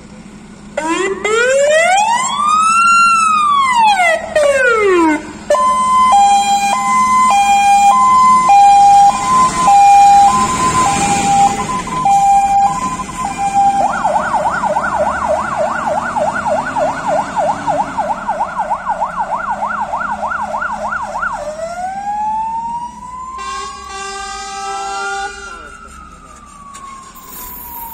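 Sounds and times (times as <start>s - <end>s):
fire engine siren: 0.6s - 27.9s.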